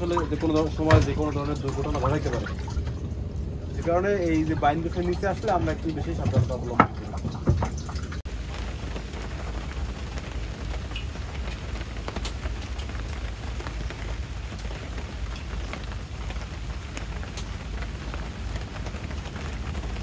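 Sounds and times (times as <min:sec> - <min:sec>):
low rumble: 0:00.0 - 0:20.0
rain shower: 0:00.0 - 0:20.0.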